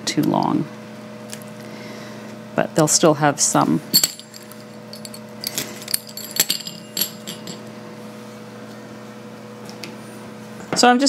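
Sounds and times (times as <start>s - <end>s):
faint steady hum: 0.0s - 10.4s.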